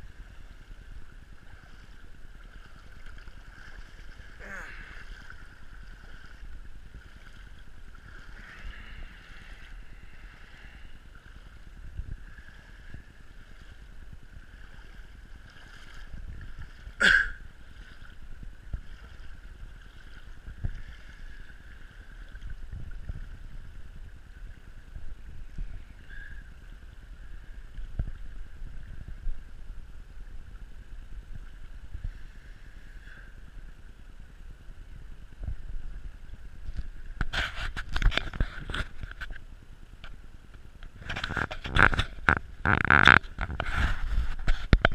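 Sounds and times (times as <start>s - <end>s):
floodwater flowing and sloshing: 0.0s - 44.9s.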